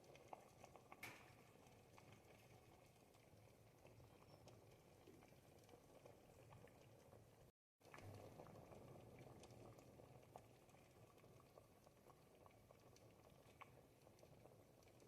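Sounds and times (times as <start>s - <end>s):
soup simmering with soft bubbling: 0.0s - 15.0s.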